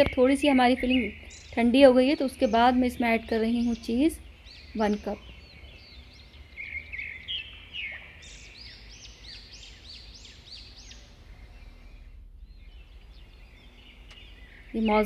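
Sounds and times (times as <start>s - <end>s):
bird chirping: 0.0s - 15.0s
low steady hum: 0.0s - 15.0s.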